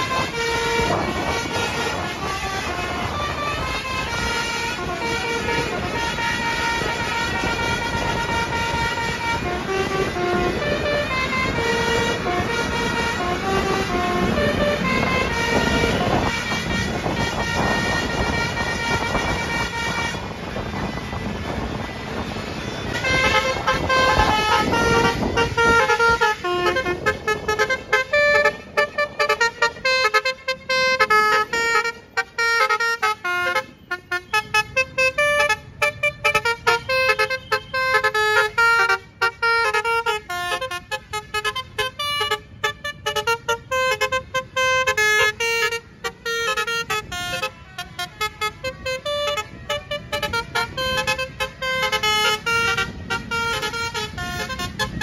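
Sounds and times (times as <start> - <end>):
bus horns playing fast tune: 0.0 - 55.0
passing bus engine and road noise: 0.0 - 55.0.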